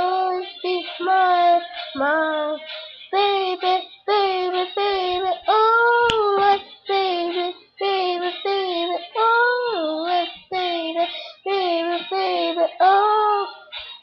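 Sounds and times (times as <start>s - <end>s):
boy singing: 0.0s - 13.8s.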